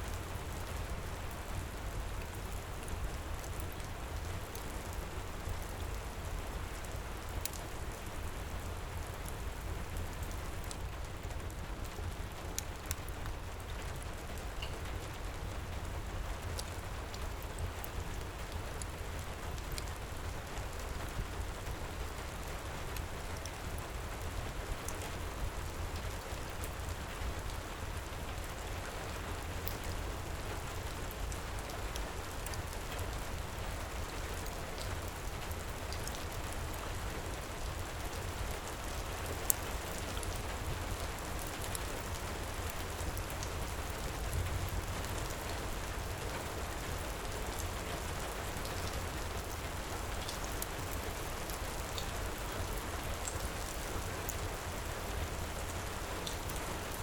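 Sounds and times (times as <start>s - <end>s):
heavy rain pouring: 0.4s - 57.0s.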